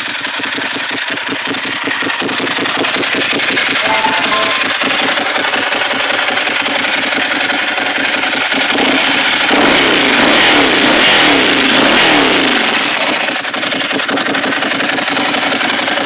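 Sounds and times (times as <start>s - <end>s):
motorcycle engine idling and revving: 0.0s - 3.6s, 5.4s - 16.0s.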